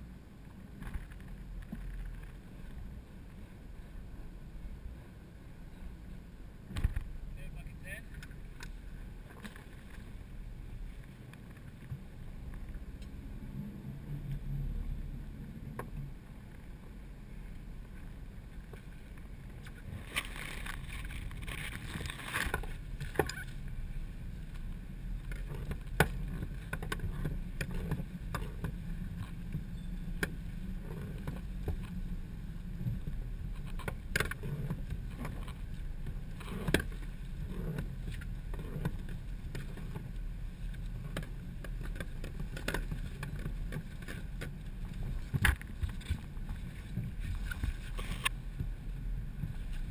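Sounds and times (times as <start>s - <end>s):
low rumble: 0.0s - 49.9s.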